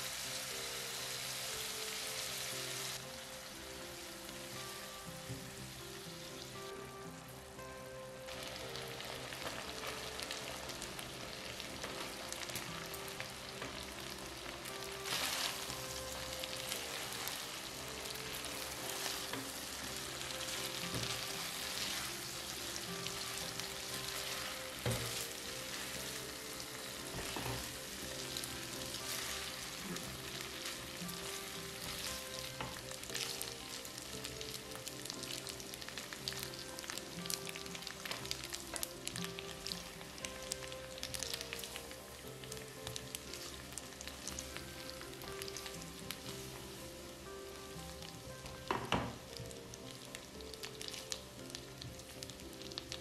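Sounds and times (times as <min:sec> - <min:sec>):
food sizzling in frying pan: 0:00.0 - 0:53.0.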